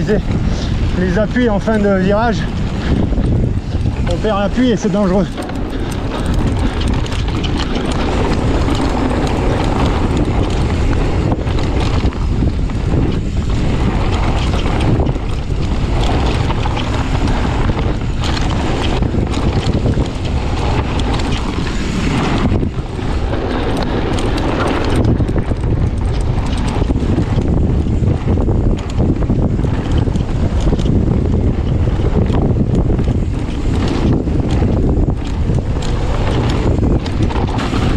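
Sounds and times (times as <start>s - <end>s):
bike rattling and knocking: 0.0s - 37.9s
wind buffeting microphone: 0.0s - 37.9s.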